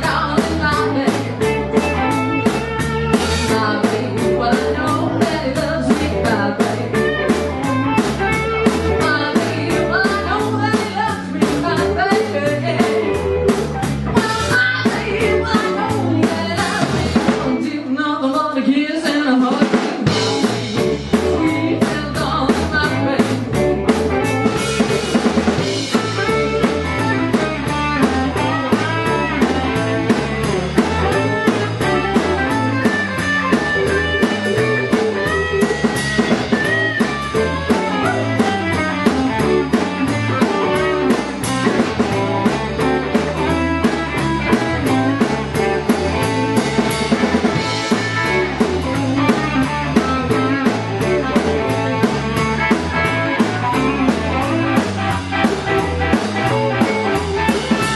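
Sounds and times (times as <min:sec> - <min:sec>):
drum kit beat: 0:00.0 - 0:17.7, 0:19.1 - 0:57.9
electric guitars: 0:00.0 - 0:57.9.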